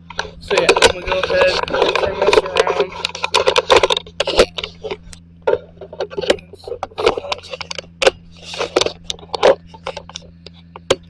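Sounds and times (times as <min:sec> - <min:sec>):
camera handling clicks and knocks: 0:00.0 - 0:11.0
faint steady hum: 0:00.0 - 0:11.0.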